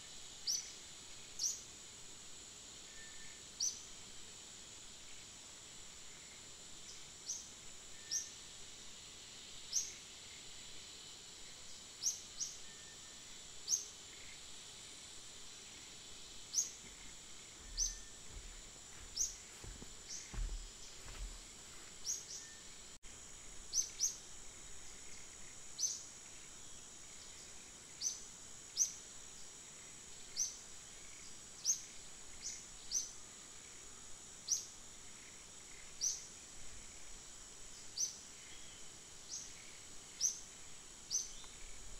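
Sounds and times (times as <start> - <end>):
high insect drone: 0.0 - 41.9.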